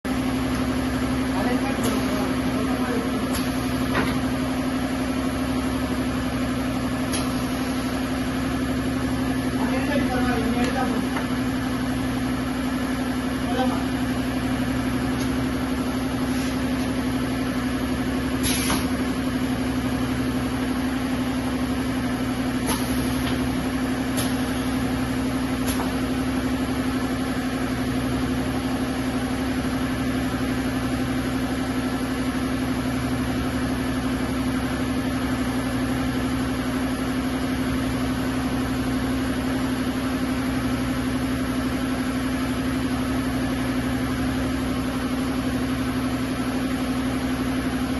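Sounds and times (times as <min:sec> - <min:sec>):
steady machine hum: 0:00.0 - 0:47.9.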